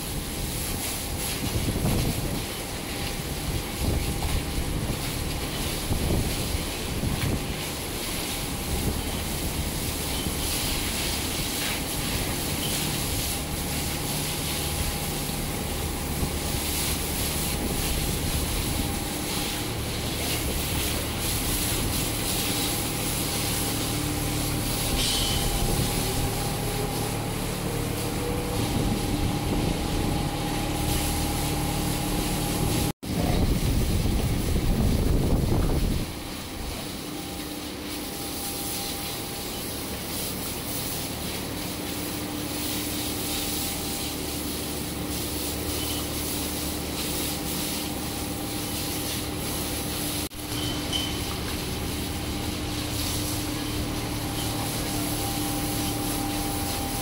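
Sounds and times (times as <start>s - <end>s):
mechanical drone and hum: 0.0s - 57.0s
water hose spraying: 0.0s - 57.0s.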